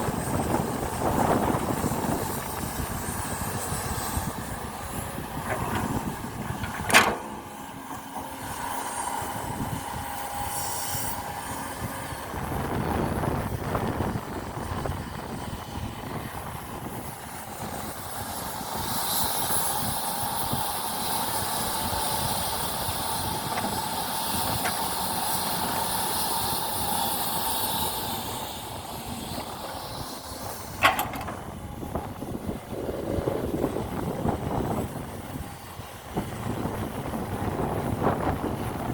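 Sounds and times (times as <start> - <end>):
model excavator motors whining: 0.1 - 11.8, 12.4 - 38.9.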